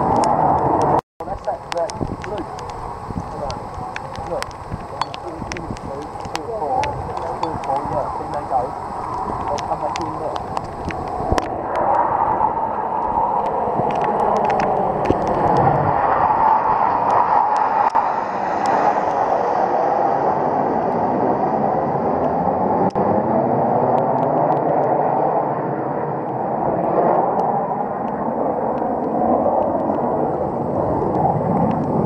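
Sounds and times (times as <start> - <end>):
jets flying overhead: 0.0 - 32.0.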